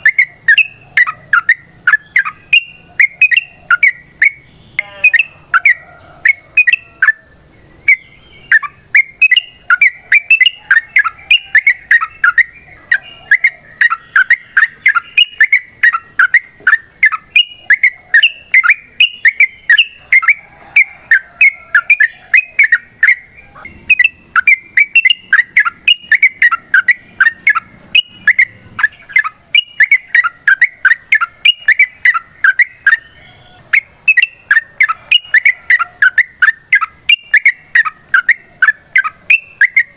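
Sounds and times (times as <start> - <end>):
bulbul whistling song: 0.0 - 39.9.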